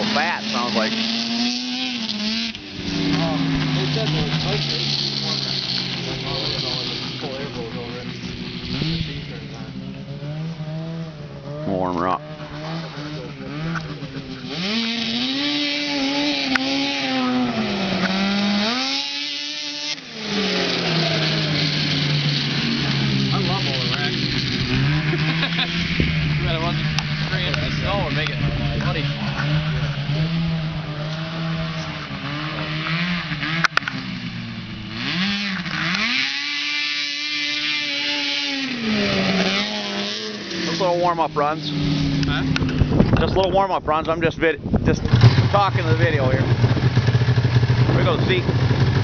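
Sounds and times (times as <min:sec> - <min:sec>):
snowmobile engine revving: 0:00.0 - 0:49.0.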